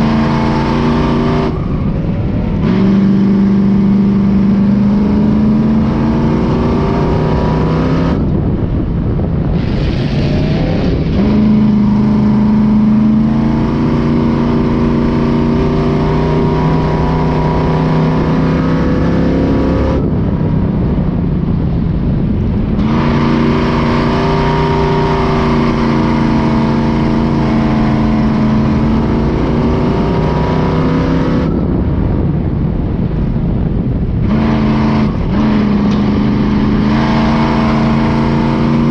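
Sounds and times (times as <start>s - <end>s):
truck engine revving: 0.0s - 32.4s, 33.0s - 38.9s.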